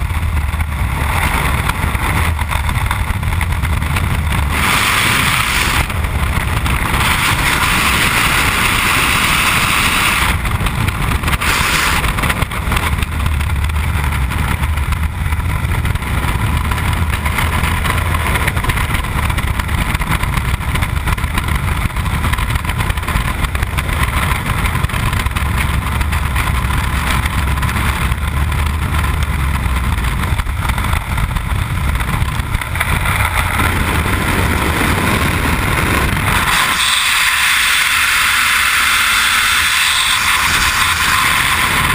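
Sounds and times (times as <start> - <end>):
freefall wind rushing: 0.0 - 25.4, 29.4 - 41.9.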